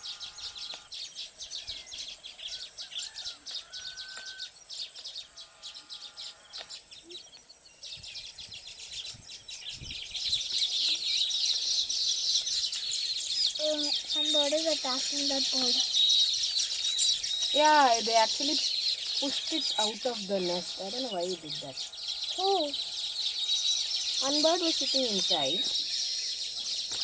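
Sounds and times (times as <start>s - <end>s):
birds chattering with high chirps: 0.0s - 27.0s.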